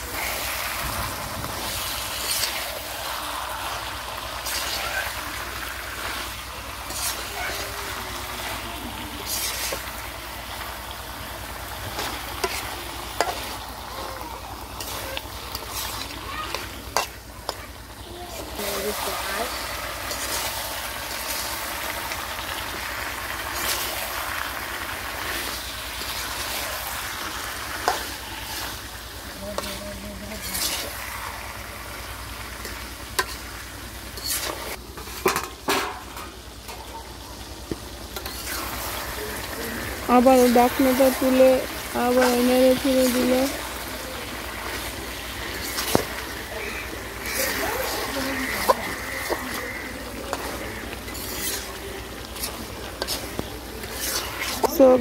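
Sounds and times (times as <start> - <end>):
metal spatula scraping a wok: 0.0 - 3.2, 3.8 - 14.1, 14.7 - 17.8, 18.4 - 36.9, 38.0 - 55.0
food sizzling in a wok: 0.0 - 55.0.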